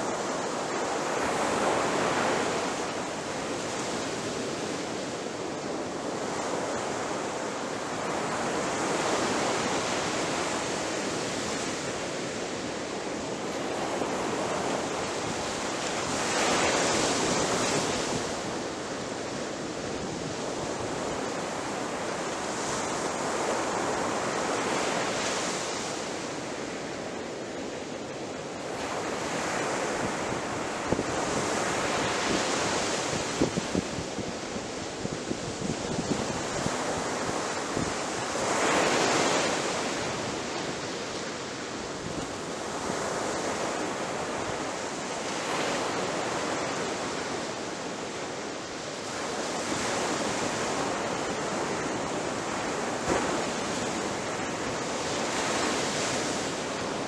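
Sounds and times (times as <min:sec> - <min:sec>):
ocean waves breaking on a beach: 0:00.0 - 0:57.0.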